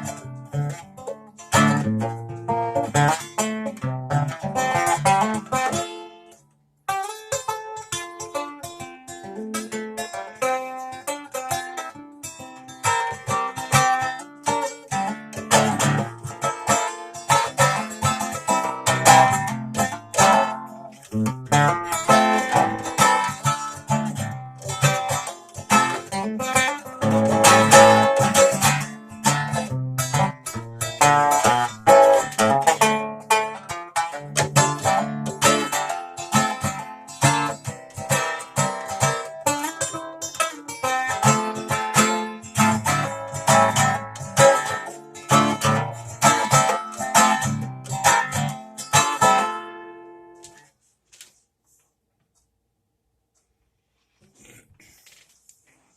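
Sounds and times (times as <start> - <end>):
plucked acoustic string instrument: 0.0 - 50.7.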